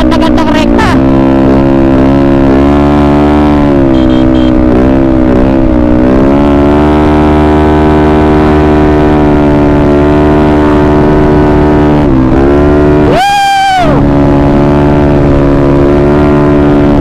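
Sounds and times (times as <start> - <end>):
scooter engine at high revs: 0.0 - 17.0.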